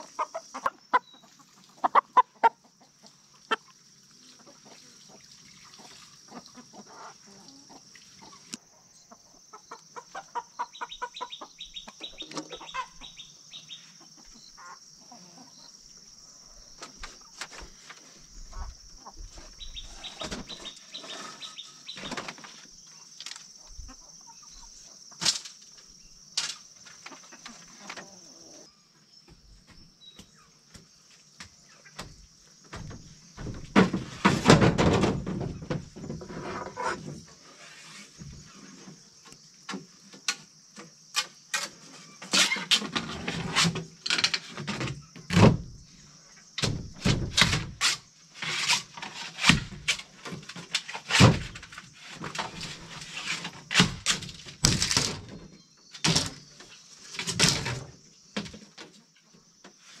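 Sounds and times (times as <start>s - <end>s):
steady high-pitched hiss: 0.0s - 60.0s.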